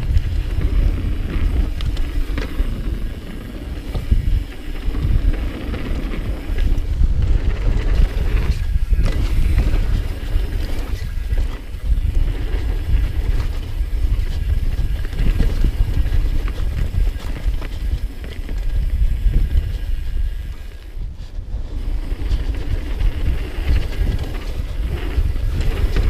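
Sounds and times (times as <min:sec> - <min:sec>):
rumble of bike tyres on dirt: 0:00.0 - 0:26.0
wind buffeting microphone: 0:00.0 - 0:26.0.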